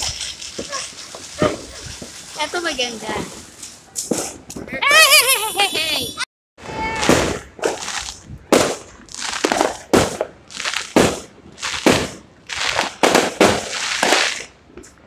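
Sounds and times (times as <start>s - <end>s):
fireworks bangs: 0.0s - 5.2s, 6.6s - 14.9s
fireworks crackling: 0.0s - 15.0s.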